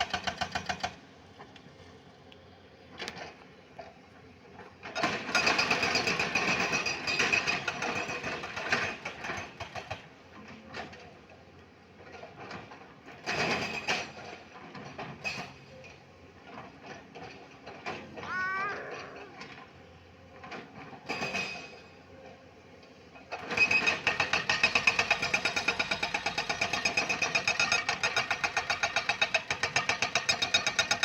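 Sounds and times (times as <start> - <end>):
excavator diesel engine clattering: 0.0 - 1.8, 2.8 - 18.4, 19.0 - 31.0.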